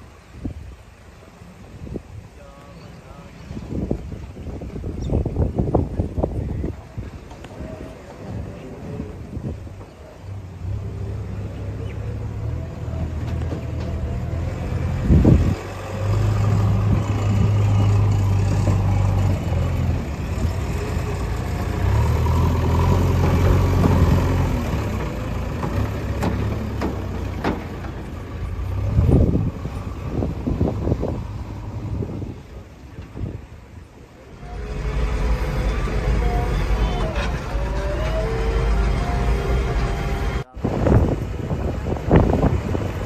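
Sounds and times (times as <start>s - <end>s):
diesel engine revving: 7.6s - 43.0s.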